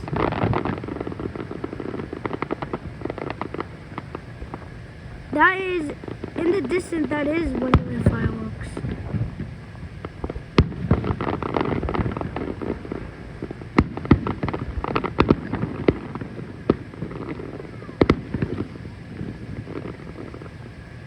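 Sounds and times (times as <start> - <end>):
loud firework booms: 0.0 - 20.8
fireworks bangs and crackling: 0.0 - 21.0.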